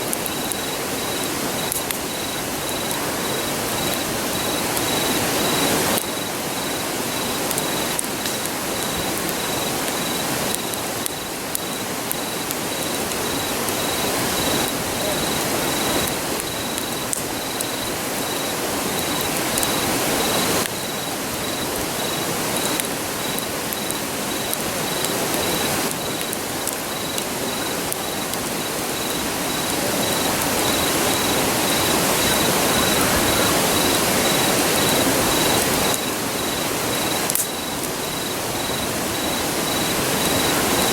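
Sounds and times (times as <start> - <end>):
campfire crackling: 0.0 - 40.9
insect chirping: 0.0 - 40.9
river roaring: 0.0 - 40.9.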